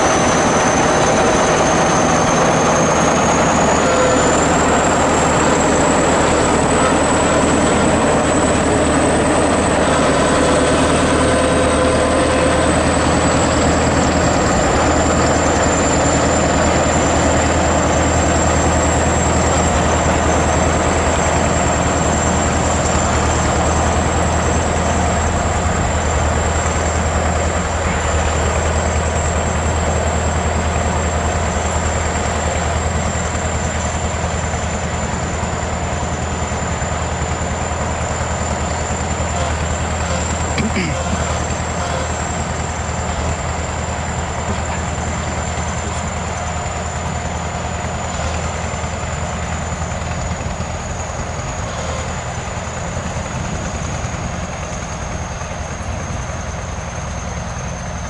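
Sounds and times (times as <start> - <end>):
bulldozer diesel engine droning: 0.0 - 58.0
high-pitched mechanical whine: 0.0 - 58.0.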